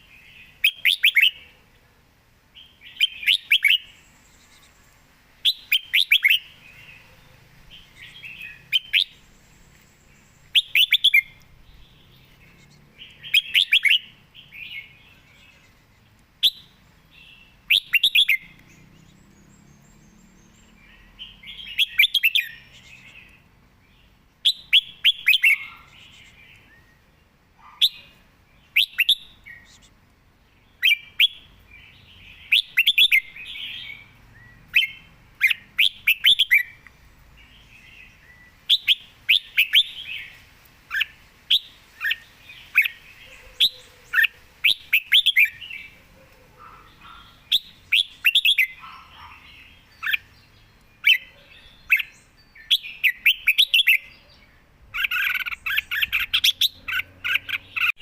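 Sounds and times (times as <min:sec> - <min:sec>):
bird singing bright notes: 0:00.0 - 0:01.6, 0:02.6 - 0:58.0.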